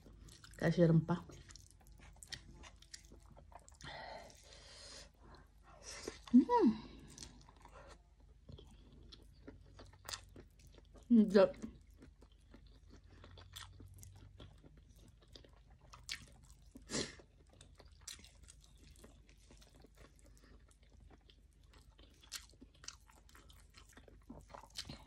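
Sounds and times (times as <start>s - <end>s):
person chewing food: 0.0s - 0.6s, 1.2s - 25.0s.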